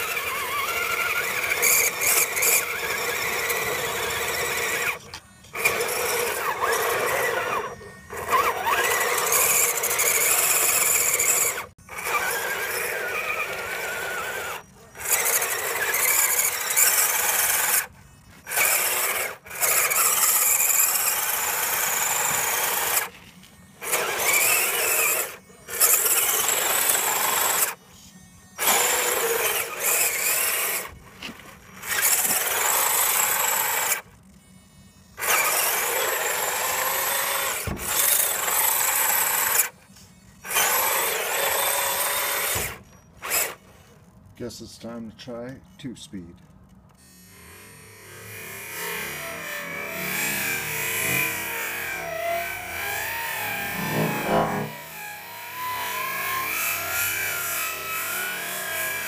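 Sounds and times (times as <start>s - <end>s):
rc truck motor whining: 0.0s - 44.4s, 46.7s - 59.0s.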